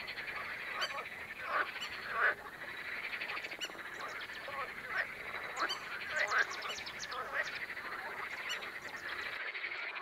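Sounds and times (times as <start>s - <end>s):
frogs croaking: 0.0s - 10.0s.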